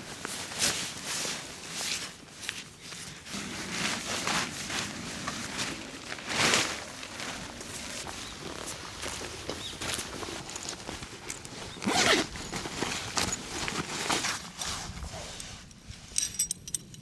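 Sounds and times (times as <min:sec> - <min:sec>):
scuffing and rustling: 0:00.0 - 0:16.4.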